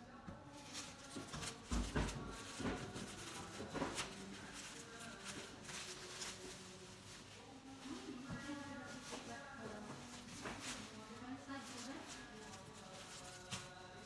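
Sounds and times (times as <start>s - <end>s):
plastic wrapping crinkling: 0.5s - 14.0s.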